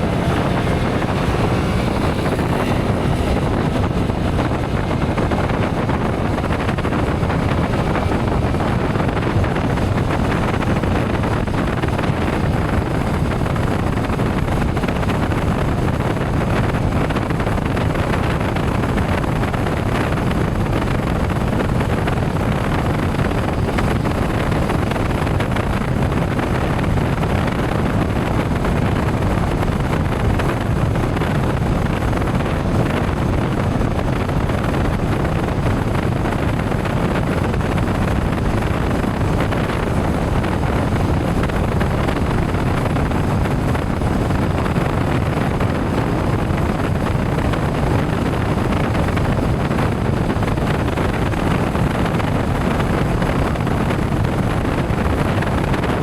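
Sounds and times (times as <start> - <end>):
motorcycle road noise: 0.0 - 56.0
wind rushing over microphone: 0.0 - 56.0.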